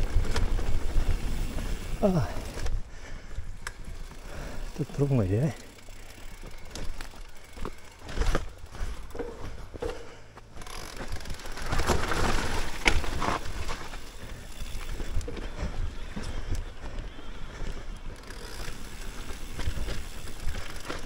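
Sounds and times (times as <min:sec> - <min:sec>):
bike rattling: 0:00.0 - 0:21.0
bike tyres rolling over dirt: 0:00.0 - 0:21.0.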